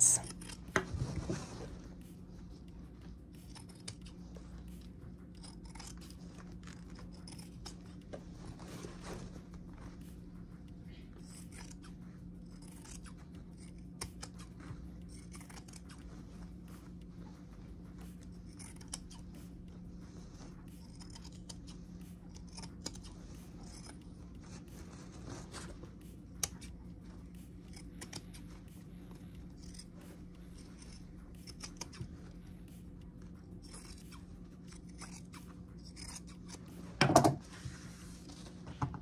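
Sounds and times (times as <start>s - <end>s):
scissors snipping fabric: 0.0s - 1.0s, 1.7s - 37.5s
steady low hum: 0.0s - 39.0s.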